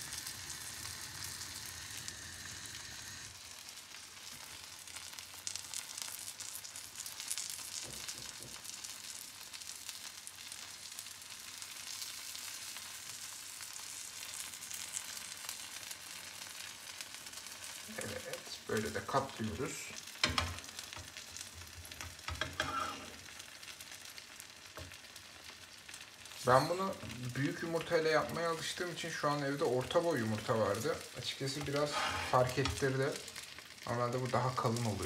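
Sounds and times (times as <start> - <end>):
omelette sizzling in frying pan: 0.0 - 35.0.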